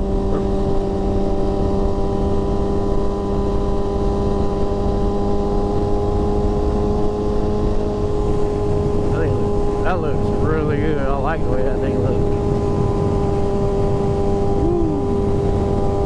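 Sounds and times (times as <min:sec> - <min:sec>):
motorcycle engine cruising: 0:00.0 - 0:16.0
wind on microphone: 0:00.0 - 0:16.0.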